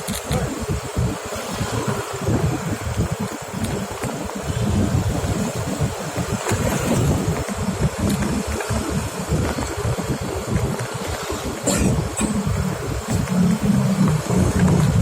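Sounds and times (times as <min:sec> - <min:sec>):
road noise: 0:00.0 - 0:15.0
vehicle engine: 0:00.0 - 0:15.0
wind rumble on microphone: 0:00.0 - 0:15.0.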